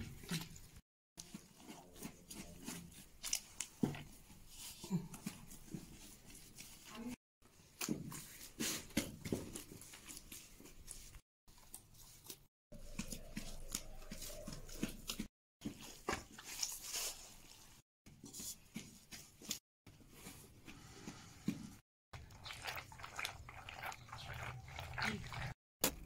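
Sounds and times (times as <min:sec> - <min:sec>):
hands kneading wet dough: 0:00.0 - 0:26.0.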